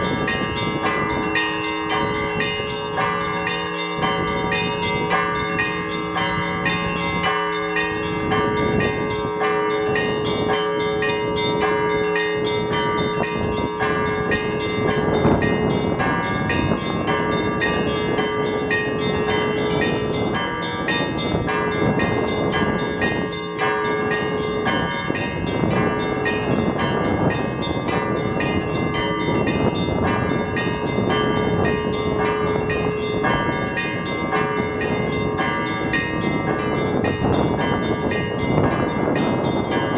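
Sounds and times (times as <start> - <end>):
church bells pealing: 0.0 - 39.9
wind buffeting microphone: 0.0 - 39.9.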